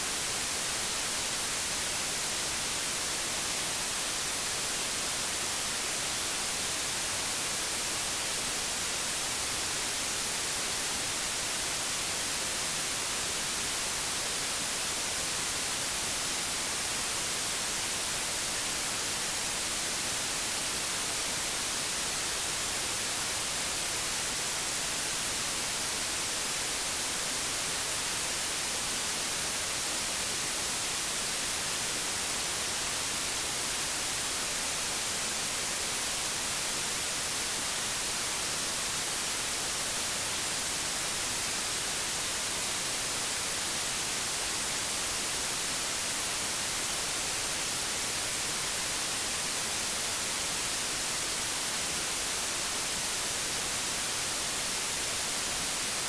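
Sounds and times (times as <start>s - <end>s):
television static hiss: 0.0s - 56.0s.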